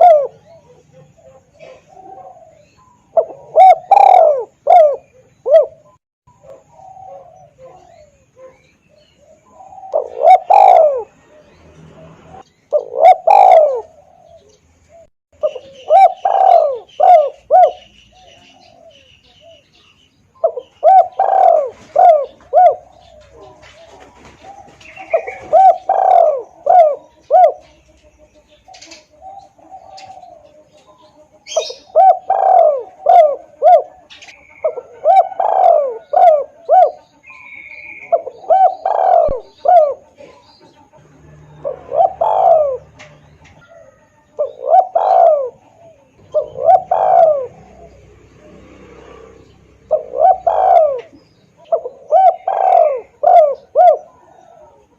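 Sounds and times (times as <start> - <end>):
dove cooing: 0.0 - 19.8, 20.4 - 54.9.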